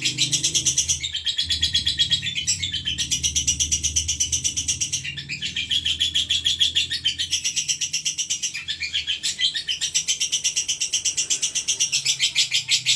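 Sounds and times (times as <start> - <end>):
bird chattering shrilly: 0.0 - 12.9.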